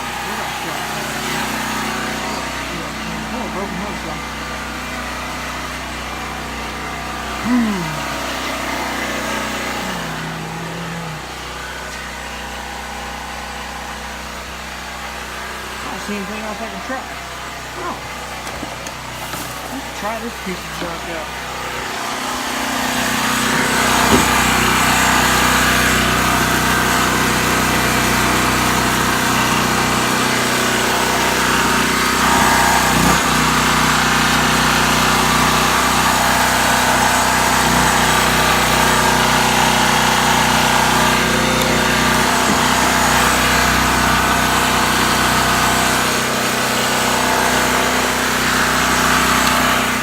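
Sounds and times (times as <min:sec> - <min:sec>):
electric power tool running: 0:00.0 - 0:50.0
generator engine running: 0:00.0 - 0:50.0.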